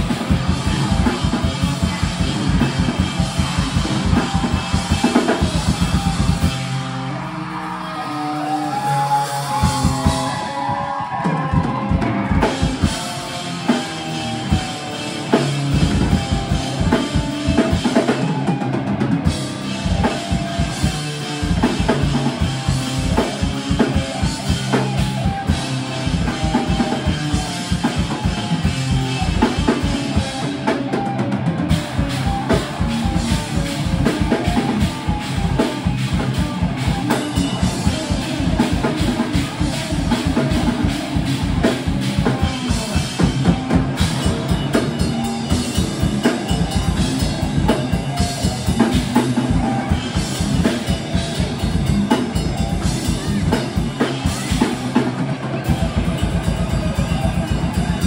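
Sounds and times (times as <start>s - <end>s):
distorted electric guitars: 0.0s - 58.0s
fast drum kit: 0.0s - 58.0s.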